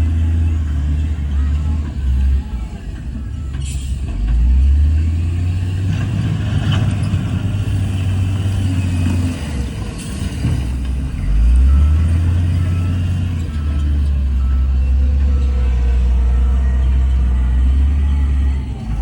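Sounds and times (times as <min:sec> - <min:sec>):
diesel machinery engine rumble: 0:00.0 - 0:19.0.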